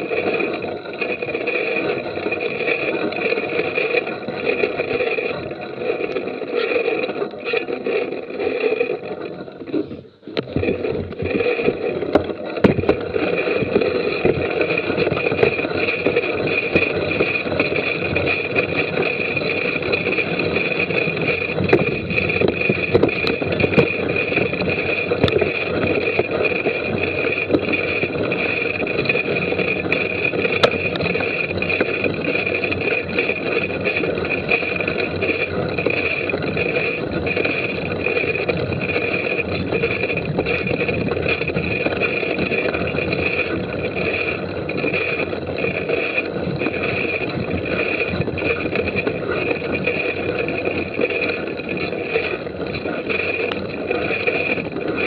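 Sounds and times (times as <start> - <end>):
bike clicks and rattles: 0.0 - 55.0
bike tyre rumble: 0.0 - 55.0
wind: 0.0 - 55.0.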